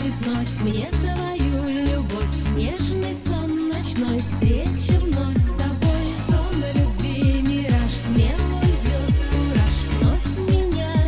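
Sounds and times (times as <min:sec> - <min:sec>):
pop dance music: 0:00.0 - 0:11.0.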